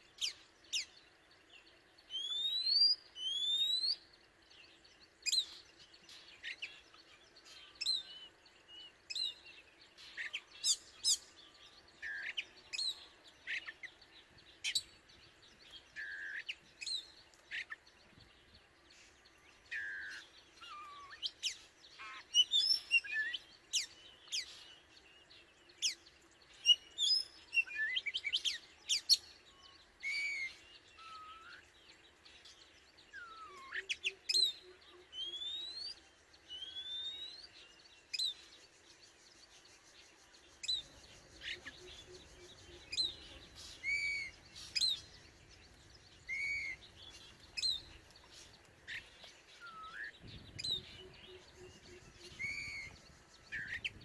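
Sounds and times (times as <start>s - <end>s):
bird singing whistles and chirps: 0.0s - 54.0s.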